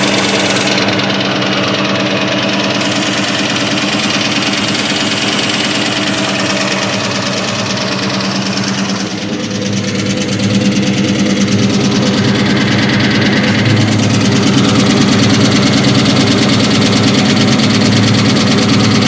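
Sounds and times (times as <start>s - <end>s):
car engine idling with knocking: 0.0s - 19.0s.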